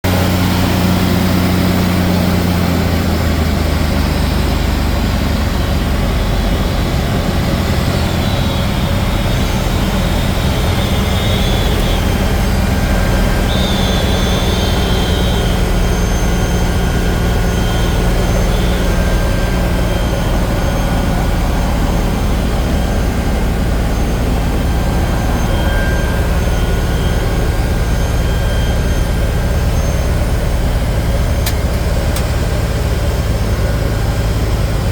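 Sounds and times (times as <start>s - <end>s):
airplane engine and propeller: 0.0s - 34.9s.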